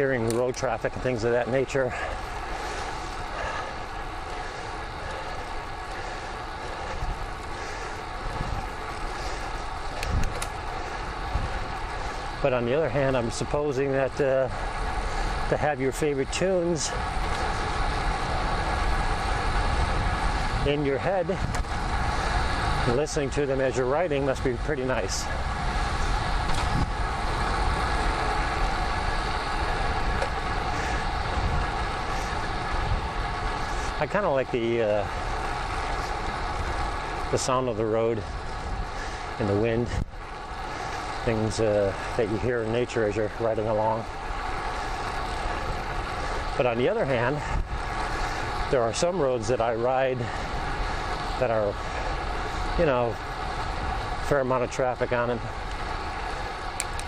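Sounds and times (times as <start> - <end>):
low bumps: 0.0 - 49.6
road noise: 0.0 - 57.0
tyre noise on pavement: 0.0 - 57.0
wind buffeting microphone: 0.0 - 57.0
wind rush: 0.0 - 57.0.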